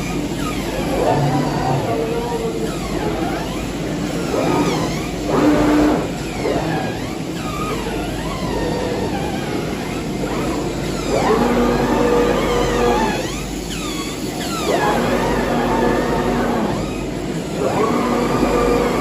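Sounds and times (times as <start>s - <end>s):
cutting machine motors whining: 0.0s - 19.0s.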